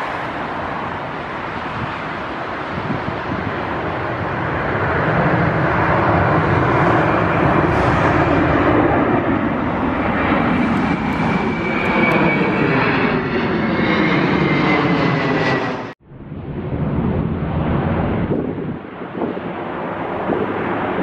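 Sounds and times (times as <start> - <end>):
jet airliner passing overhead: 0.0 - 21.0
jet engine fan whine: 0.0 - 21.0.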